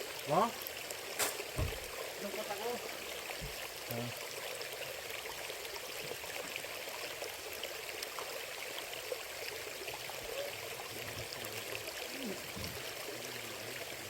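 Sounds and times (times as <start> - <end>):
small water splashes: 0.0 - 14.0
stream flowing over rocks: 0.0 - 14.0.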